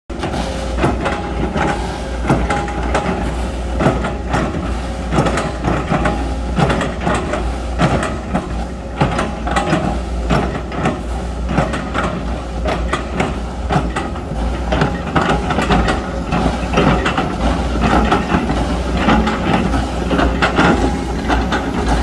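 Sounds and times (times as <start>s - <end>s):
excavator diesel engine rumbling: 0.1s - 22.0s
excavator knocks and clanks: 0.1s - 22.0s.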